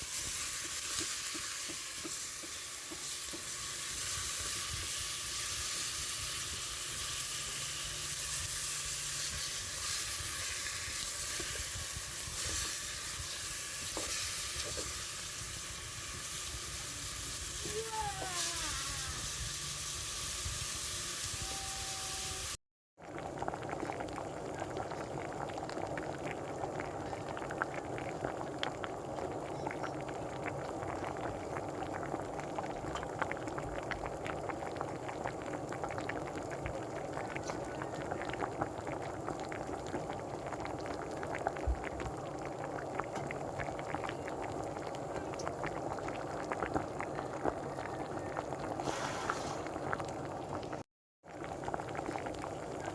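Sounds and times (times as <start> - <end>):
sauce bubbling in a pan: 0.0 - 52.9.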